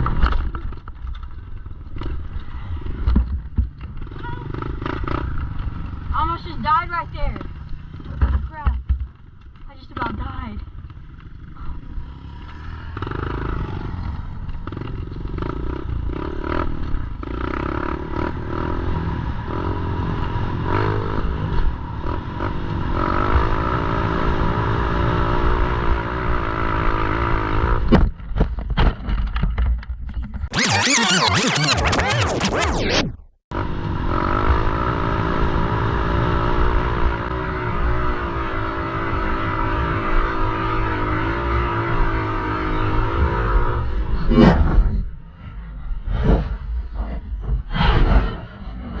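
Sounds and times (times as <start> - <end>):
pit bike engine revving: 3.8 - 8.6, 9.9 - 27.9, 31.4 - 49.0.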